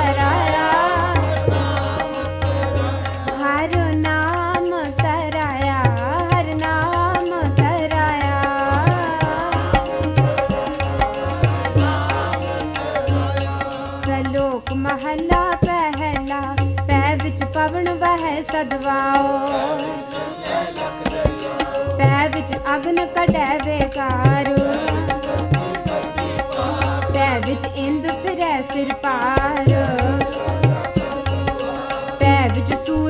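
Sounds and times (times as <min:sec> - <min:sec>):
women singing a hymn: 0:00.0 - 0:15.4, 0:18.2 - 0:33.0
fast ticking beat: 0:00.0 - 0:33.0
harmonium reed drone: 0:00.0 - 0:33.0
tabla: 0:00.0 - 0:33.0.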